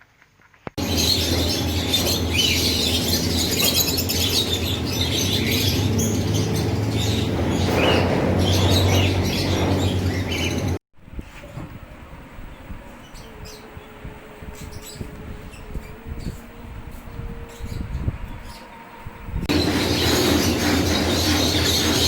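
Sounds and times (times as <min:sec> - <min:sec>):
cage birds chirping: 0:00.8 - 0:10.8, 0:12.5 - 0:22.0.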